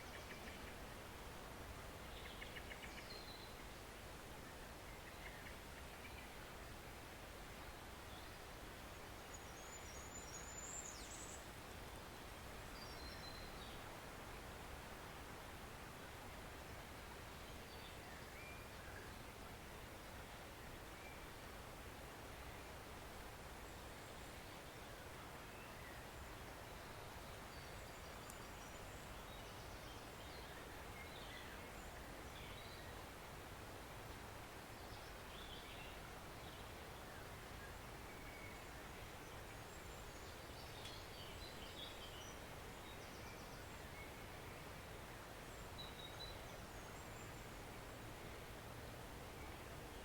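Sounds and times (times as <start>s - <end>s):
woodland stream rushing: 0.0s - 50.0s.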